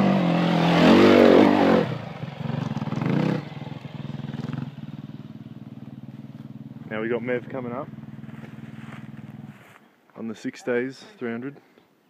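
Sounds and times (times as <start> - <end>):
dirt bike engines revving past: 0.0 - 9.8.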